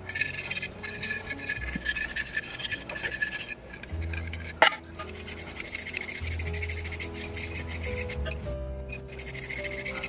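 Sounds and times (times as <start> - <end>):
hand tool scraping rusted iron: 0.0 - 10.0.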